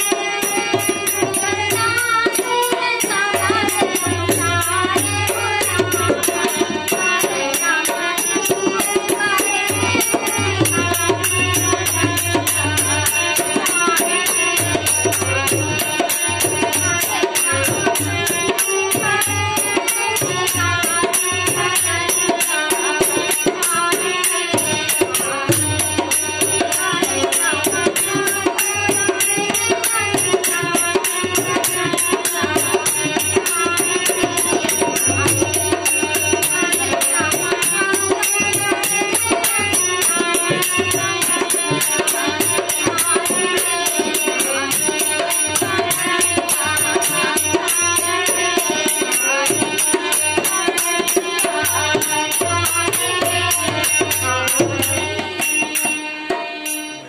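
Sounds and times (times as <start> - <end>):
harmonium playing: 0.0 - 57.0
jingling shaken percussion: 0.0 - 57.0
woman singing: 0.0 - 57.0.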